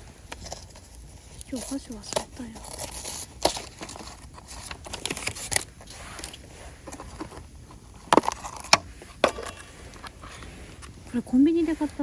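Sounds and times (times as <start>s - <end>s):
small objects clicking and knocking: 0.0s - 11.1s.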